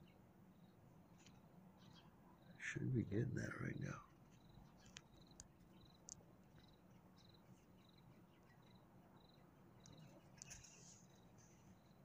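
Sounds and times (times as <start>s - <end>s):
low background hum: 0.0s - 12.0s
cricket chirping: 0.5s - 12.0s.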